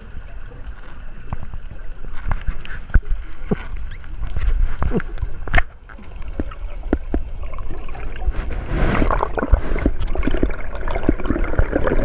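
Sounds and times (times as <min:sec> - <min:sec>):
muffled underwater rumble: 0:00.0 - 0:12.0
underwater clicks and gurgles: 0:00.0 - 0:12.0.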